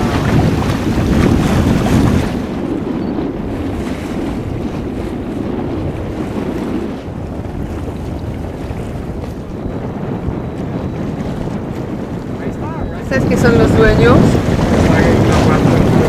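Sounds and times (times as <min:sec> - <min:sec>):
sea water washing around boat: 0:00.0 - 0:16.0
wind rumbling on microphone: 0:00.0 - 0:16.0.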